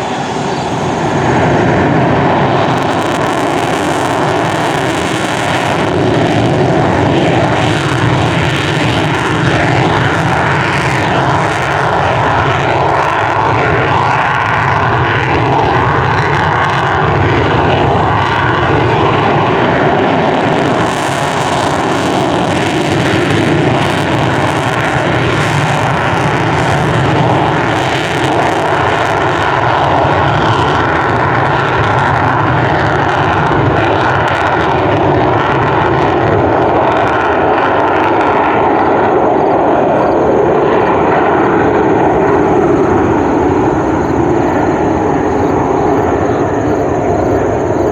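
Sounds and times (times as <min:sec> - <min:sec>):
jet engine roaring: 0:00.0 - 0:47.9.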